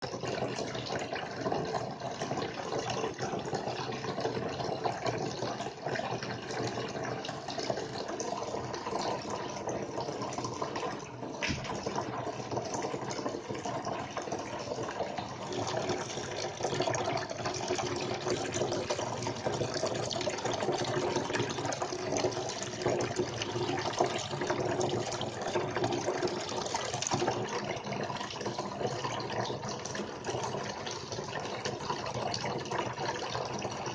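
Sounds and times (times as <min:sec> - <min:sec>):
fountain water trickling: 0:00.0 - 0:33.9.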